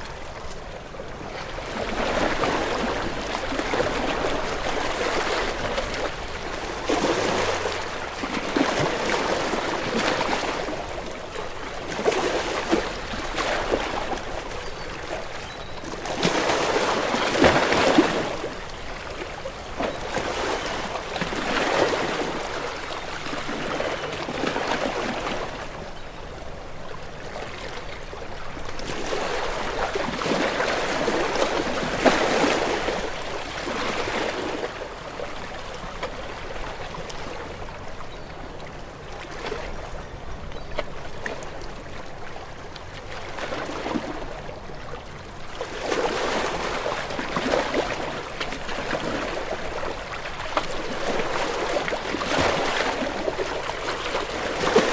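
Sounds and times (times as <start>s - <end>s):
waves washing in: 0.0s - 38.0s, 45.4s - 54.9s.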